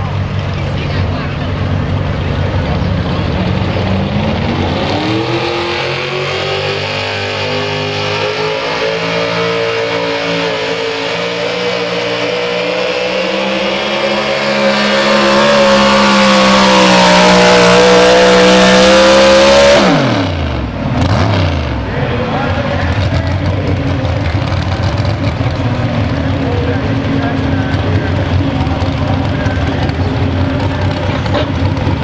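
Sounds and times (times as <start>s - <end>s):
truck engine revving under load: 0.0s - 32.0s.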